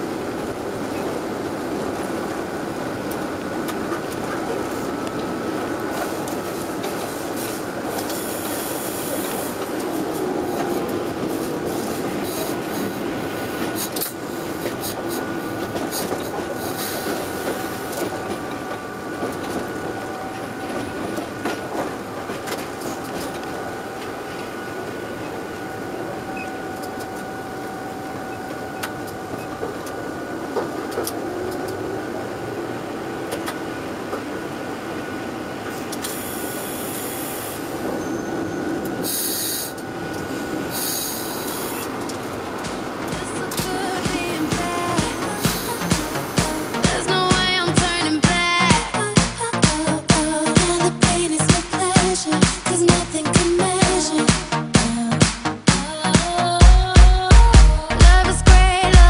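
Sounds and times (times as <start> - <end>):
faint steady whine: 0.0 - 55.1
wheels clacking over rail joints: 0.0 - 56.6
train rolling rumble: 0.0 - 59.0.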